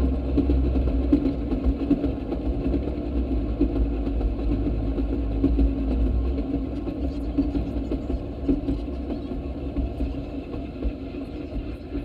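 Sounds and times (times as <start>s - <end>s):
small engine running on rails: 0.0s - 12.0s.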